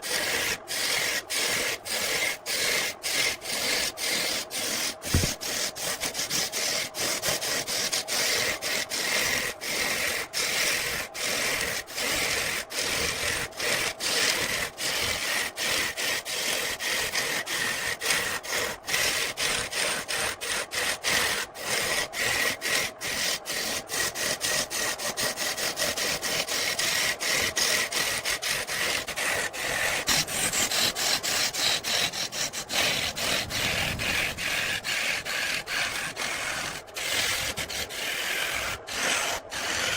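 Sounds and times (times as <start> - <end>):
tool scraping against wood: 0.0 - 39.9.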